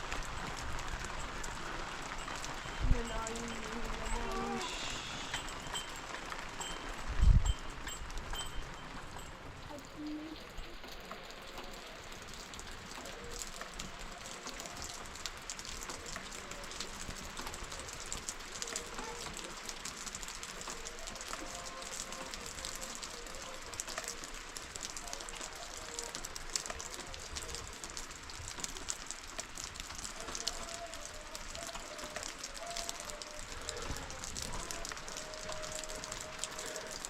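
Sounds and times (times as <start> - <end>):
raindrops ticking on hard surface: 0.0 - 37.0
steady rain falling: 0.0 - 37.0.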